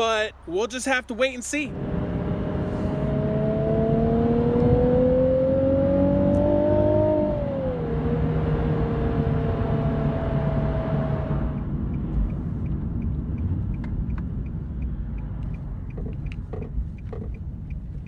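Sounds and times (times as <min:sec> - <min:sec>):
road noise inside car: 0:00.0 - 0:18.0
car engine whine: 0:01.6 - 0:18.0.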